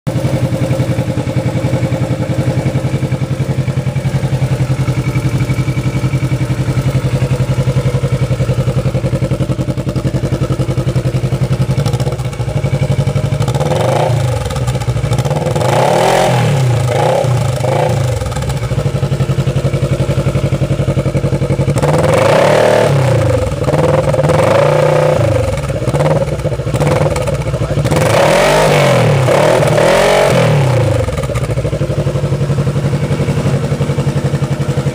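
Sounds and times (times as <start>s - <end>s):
motorcycle engine idling and revving: 0.1s - 34.9s.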